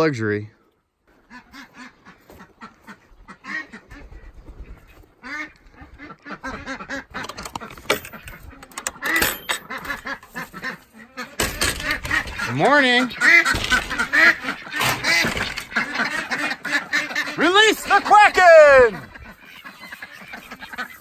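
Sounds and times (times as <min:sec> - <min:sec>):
ducks quacking: 0:01.1 - 0:21.0.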